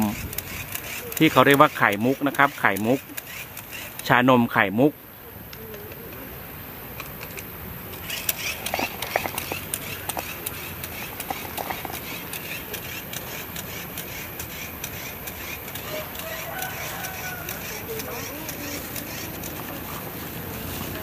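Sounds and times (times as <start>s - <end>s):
toy bubble gun motor whirring: 0.0s - 4.2s, 7.0s - 21.0s.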